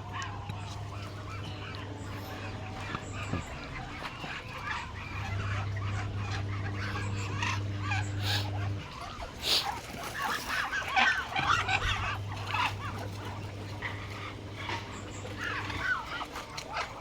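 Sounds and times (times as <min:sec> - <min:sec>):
chickens and ducks calling: 0:00.0 - 0:17.0
steady low hum: 0:00.0 - 0:17.0.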